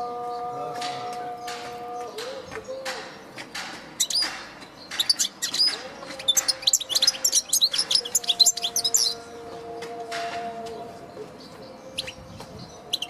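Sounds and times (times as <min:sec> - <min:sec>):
bird twittering song: 0:00.0 - 0:13.0.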